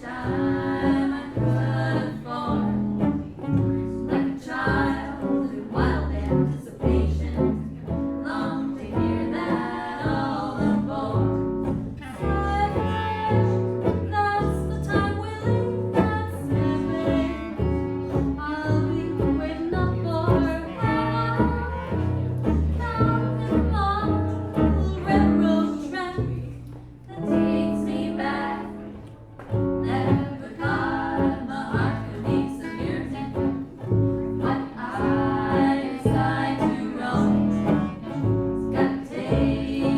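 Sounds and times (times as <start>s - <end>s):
bass line: 0.1s - 39.9s.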